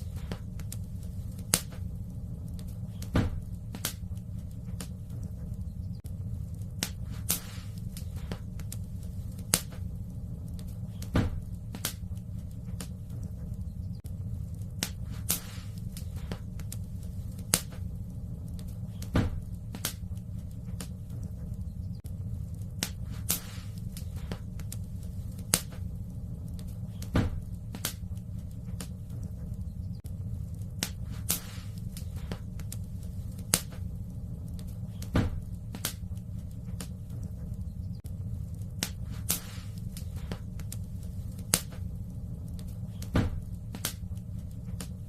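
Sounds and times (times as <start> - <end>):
low rumble: 0.0 - 45.0
sharp fire pops: 0.0 - 45.0
wood fire crackling: 0.0 - 45.0.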